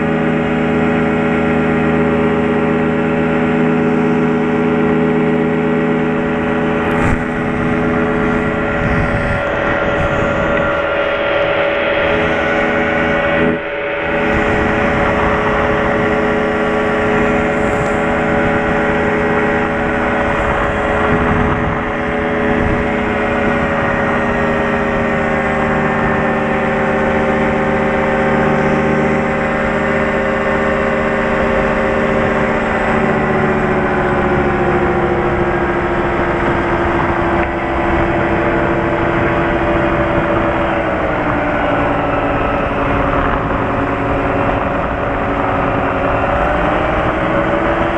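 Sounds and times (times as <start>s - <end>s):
propeller plane engine droning: 0.0s - 47.9s.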